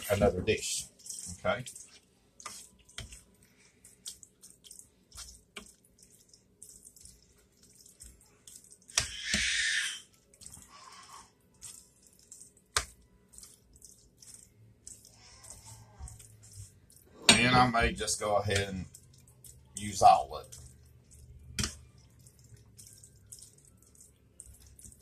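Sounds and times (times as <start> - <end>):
spoon squelching in pasta: 0.0 - 25.0.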